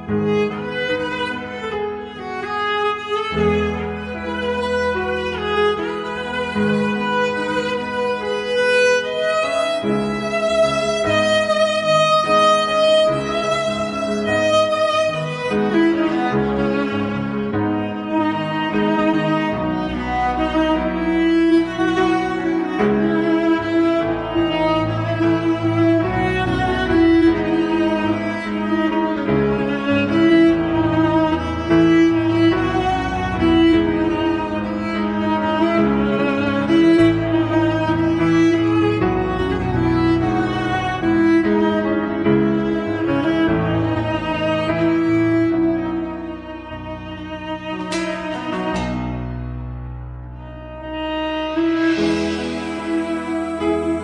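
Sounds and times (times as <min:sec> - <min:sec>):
violin-led string melody: 0:00.0 - 0:54.0.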